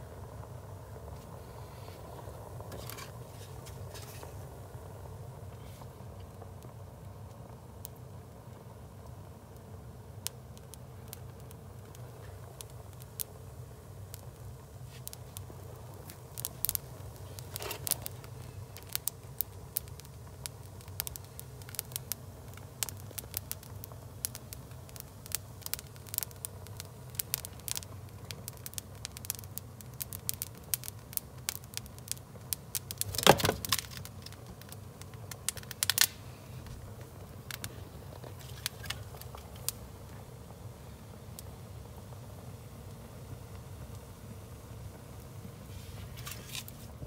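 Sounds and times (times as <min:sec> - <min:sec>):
fire crackling and popping: 0:00.0 - 0:47.0
low steady hum: 0:00.0 - 0:47.0.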